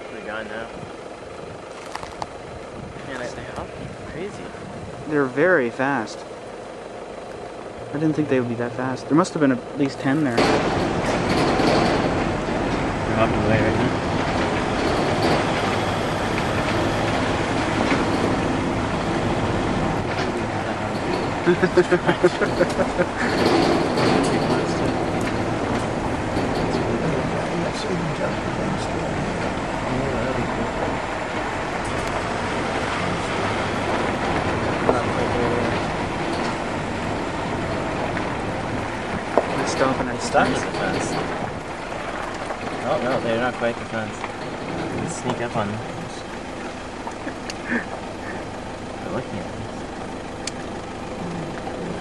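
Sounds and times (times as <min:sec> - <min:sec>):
vehicle rumbling over rough ground: 0:00.0 - 0:52.0.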